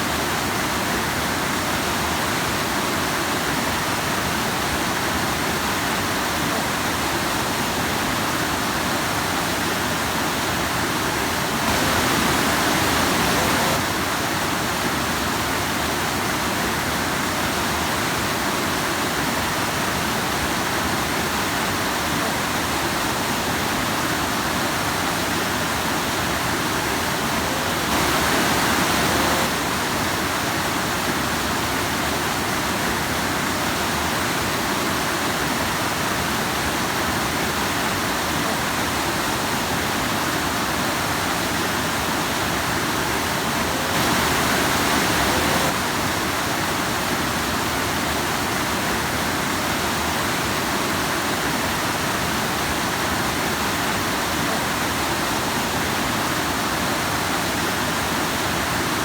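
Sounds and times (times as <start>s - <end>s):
stream water rushing over rocks: 0.0s - 59.0s.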